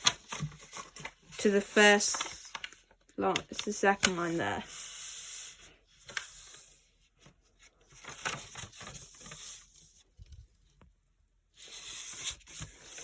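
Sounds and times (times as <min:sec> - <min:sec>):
paper crinkling while folded: 0:00.0 - 0:10.2, 0:11.6 - 0:13.0.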